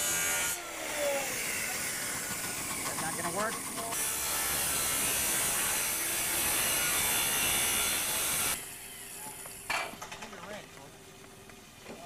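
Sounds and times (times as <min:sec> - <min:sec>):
circular saw cutting tin roofing: 0:00.0 - 0:10.9.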